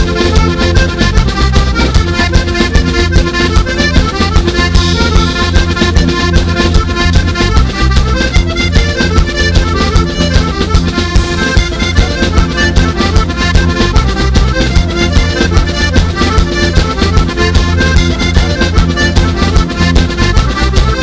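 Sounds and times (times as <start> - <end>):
accordion dance tune: 0.0 - 21.0.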